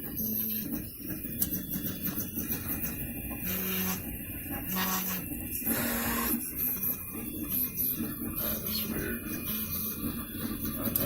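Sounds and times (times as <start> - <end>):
stepper motors humming: 0.0 - 11.0.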